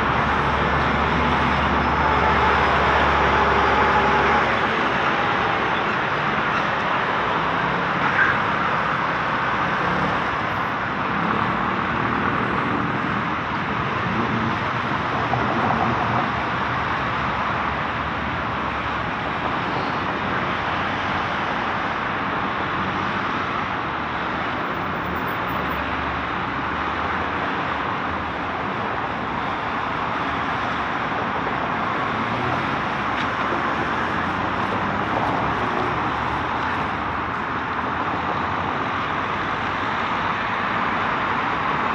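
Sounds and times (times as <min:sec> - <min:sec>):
passing cars and tyre noise: 0:00.0 - 0:41.9.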